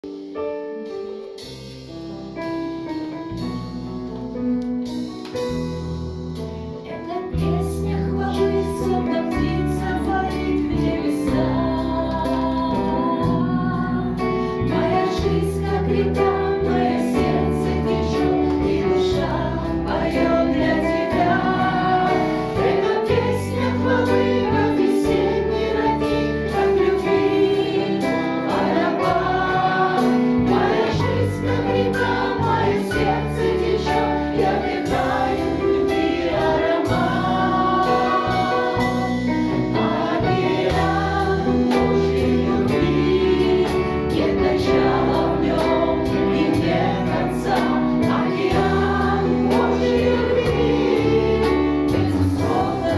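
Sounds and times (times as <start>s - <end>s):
instrumental backing music: 0.0s - 52.9s
choir singing a praise song: 6.9s - 52.9s.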